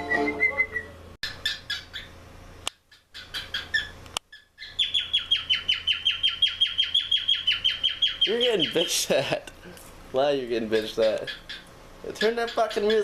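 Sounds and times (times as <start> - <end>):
cockatiel chirping: 0.0 - 2.2, 2.9 - 9.0, 10.7 - 13.0.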